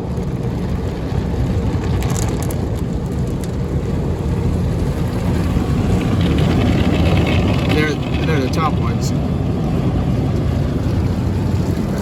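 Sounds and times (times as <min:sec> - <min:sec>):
car wash brushes and water rumbling: 0:00.0 - 0:12.0.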